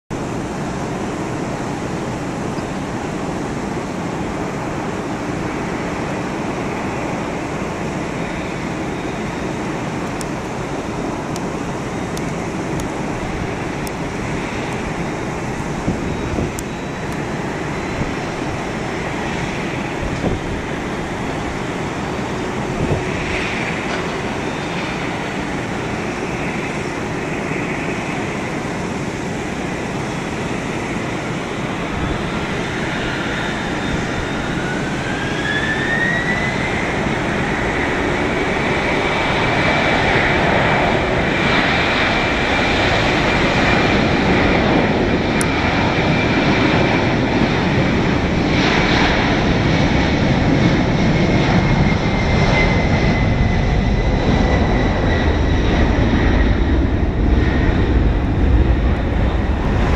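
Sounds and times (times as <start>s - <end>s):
jet engines idling: 0.1s - 59.9s
wind noise: 0.1s - 59.9s.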